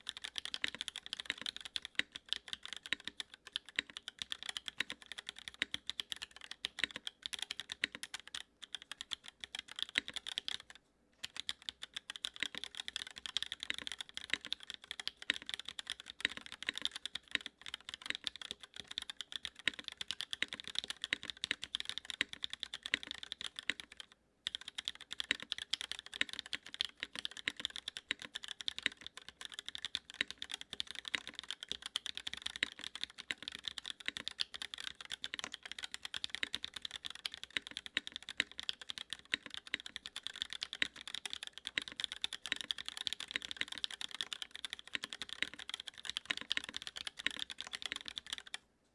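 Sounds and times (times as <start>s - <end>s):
fast mechanical keyboard typing: 0.0s - 48.6s.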